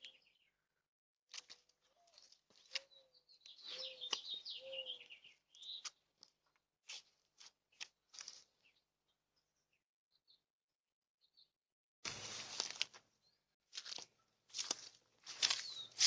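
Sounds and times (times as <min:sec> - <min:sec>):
small birds chirping: 0:00.0 - 0:10.4, 0:13.2 - 0:16.0.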